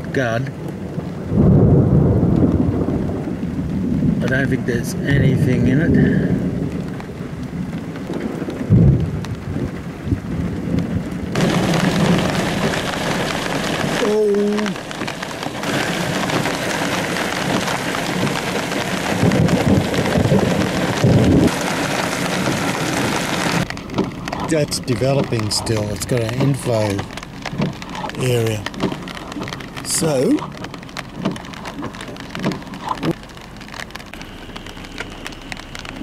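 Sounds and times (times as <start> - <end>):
rain hiss: 0.0 - 36.0
thunder rumbling: 0.0 - 36.0.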